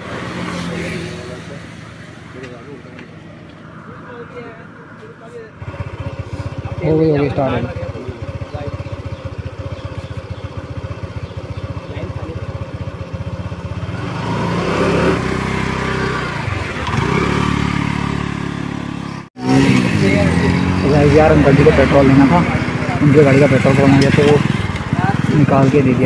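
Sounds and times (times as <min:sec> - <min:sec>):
scooter engine idling and revving: 0:00.0 - 0:26.0.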